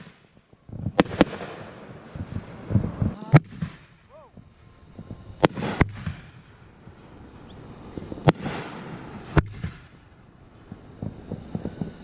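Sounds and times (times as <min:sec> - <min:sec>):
fireworks bangs: 0:00.0 - 0:12.0
fireworks hissing trail: 0:00.0 - 0:12.0.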